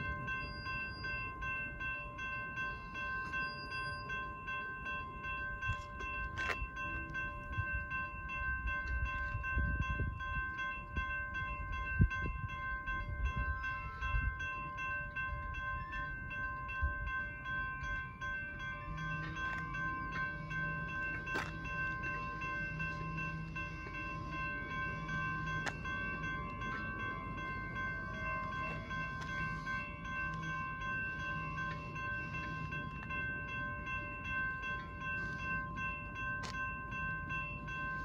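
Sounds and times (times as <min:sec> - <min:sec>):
railroad crossing bell ringing: 0:00.0 - 0:38.0
train wheels rumbling on rail: 0:00.0 - 0:38.0.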